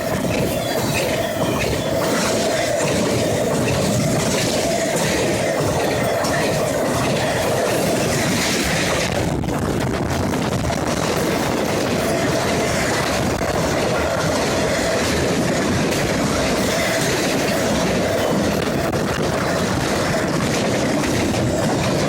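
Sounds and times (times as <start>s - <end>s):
clickety-clack over rail joints: 0.0s - 22.0s
rumble of steel wheels on rails: 0.0s - 22.0s.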